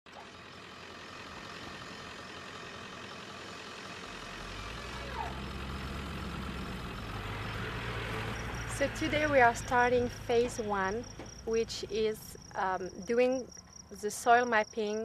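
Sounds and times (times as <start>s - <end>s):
truck engine hum: 0.1s - 15.0s.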